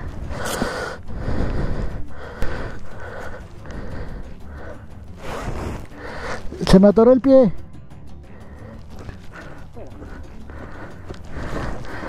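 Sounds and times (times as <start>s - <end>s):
person panting hard: 0.0s - 6.6s, 8.3s - 12.0s.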